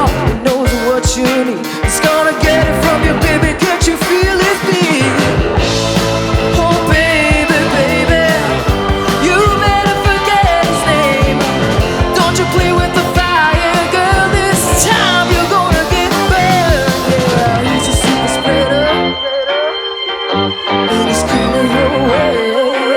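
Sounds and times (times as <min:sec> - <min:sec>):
drum kit beating: 0:00.0 - 0:19.2
bending lead melody: 0:00.0 - 0:22.9
rock band playing live: 0:00.0 - 0:22.9.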